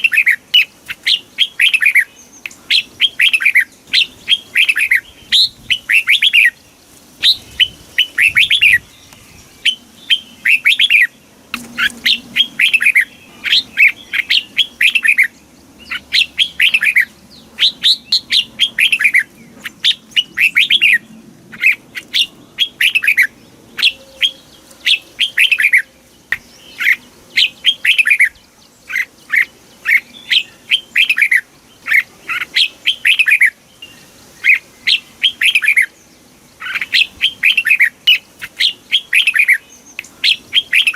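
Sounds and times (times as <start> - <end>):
bird singing chirpy phrases: 0.0 - 40.9.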